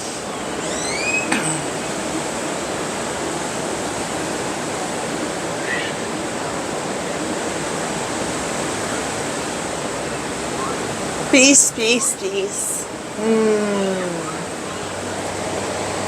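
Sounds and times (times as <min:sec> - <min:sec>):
ocean surf on a beach: 0:00.0 - 0:16.0.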